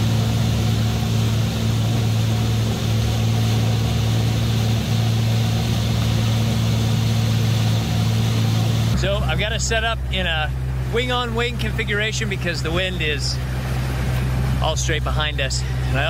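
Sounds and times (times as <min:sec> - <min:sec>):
boat engine running steadily: 0:00.0 - 0:16.0.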